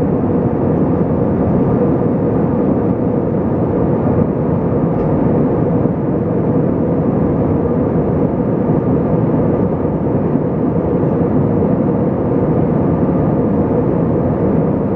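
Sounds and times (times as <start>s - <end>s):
aircraft cabin engine rush: 0.0s - 14.9s.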